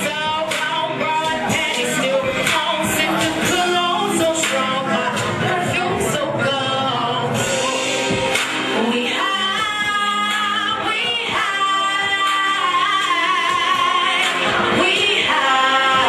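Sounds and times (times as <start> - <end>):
music: 0.0 - 16.0
woman singing: 0.0 - 16.0.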